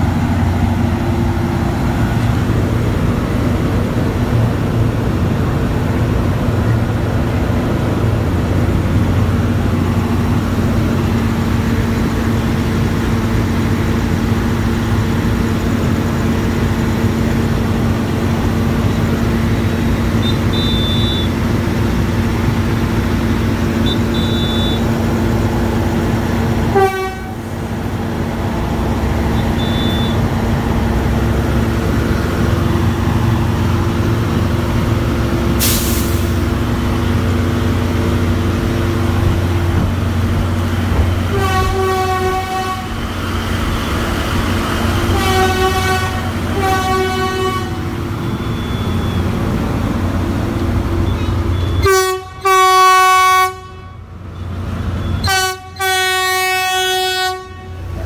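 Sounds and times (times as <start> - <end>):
diesel train engine droning: 0.0 - 58.0.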